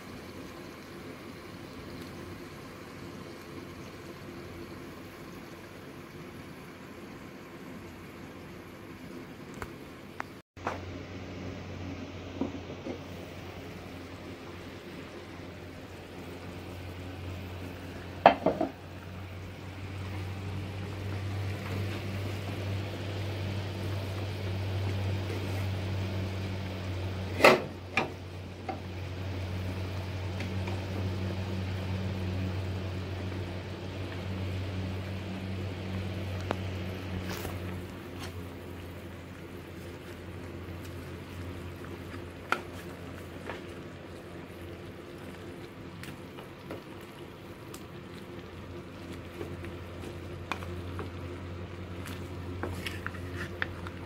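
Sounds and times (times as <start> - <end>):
broth simmering in pot: 0.0 - 54.0.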